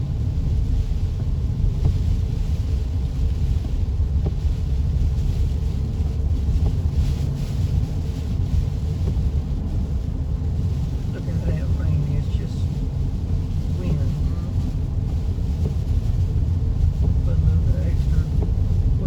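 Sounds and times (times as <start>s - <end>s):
car road rumble from inside: 0.0s - 19.0s
heavy rain on wet road: 0.0s - 19.0s.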